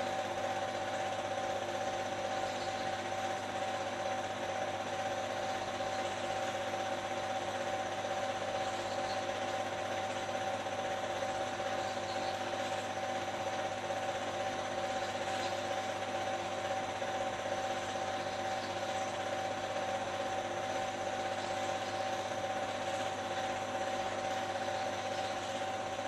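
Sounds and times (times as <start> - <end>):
constant pitched tone: 0.0 - 26.0
steady whirring hum: 0.0 - 26.0.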